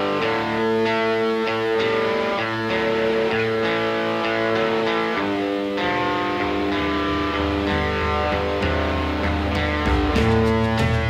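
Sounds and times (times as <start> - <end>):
electric guitar chords ringing: 0.0 - 11.0.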